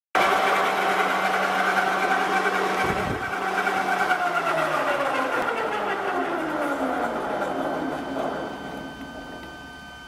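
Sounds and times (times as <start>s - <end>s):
lathe whining: 0.2s - 10.0s.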